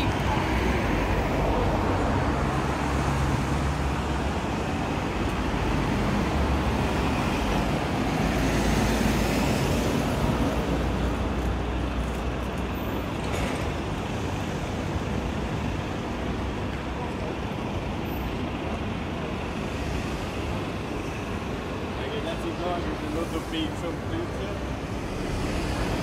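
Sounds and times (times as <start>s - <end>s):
road noise: 0.0s - 26.0s
traffic engine rumble: 0.0s - 26.0s.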